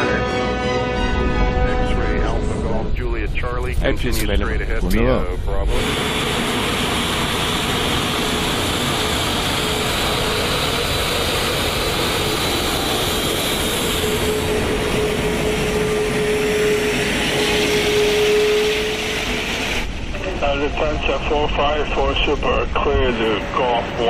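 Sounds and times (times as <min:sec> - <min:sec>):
jet engine rush: 0:01.0 - 0:24.0.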